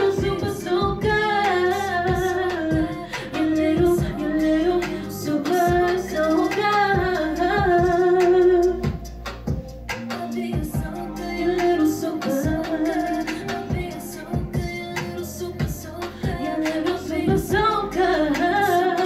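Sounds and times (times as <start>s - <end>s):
backing music with drum beat: 0.0s - 19.0s
woman singing into microphone: 0.0s - 19.0s.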